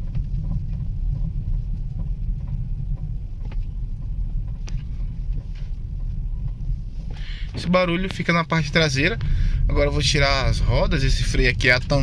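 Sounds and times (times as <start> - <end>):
car interior engine rumble: 0.0 - 12.0.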